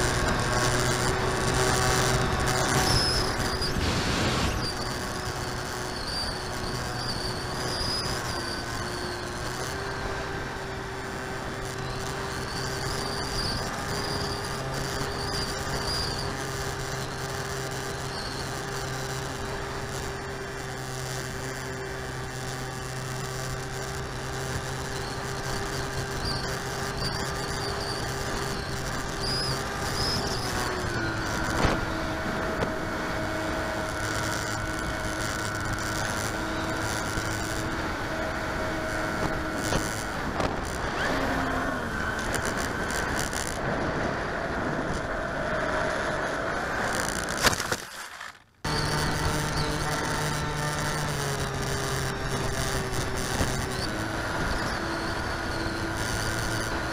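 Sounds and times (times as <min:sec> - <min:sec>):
wind noise: 0:00.0 - 0:47.7, 0:48.6 - 0:56.9
electric motor and propeller droning: 0:00.0 - 0:56.9.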